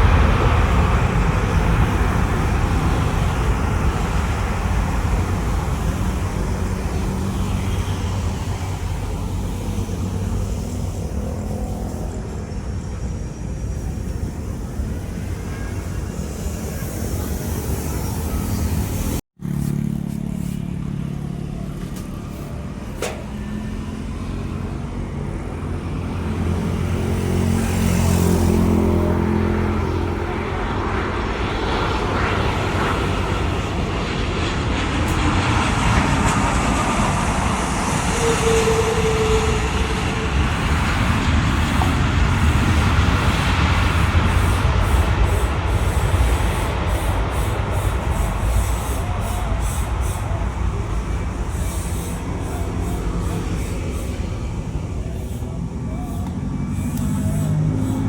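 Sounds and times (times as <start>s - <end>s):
low drone: 0.0s - 58.0s
low engine rumble: 0.0s - 58.0s.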